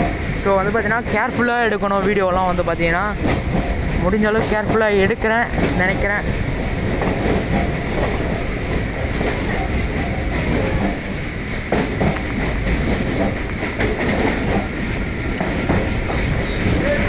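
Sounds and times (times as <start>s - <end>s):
train coach rumbling: 0.0s - 17.0s
wheels clacking over rail joints: 3.1s - 17.0s.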